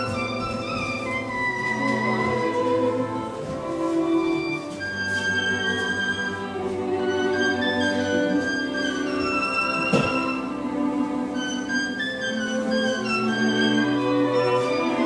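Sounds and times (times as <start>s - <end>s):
orchestral music with violin: 0.0s - 15.0s.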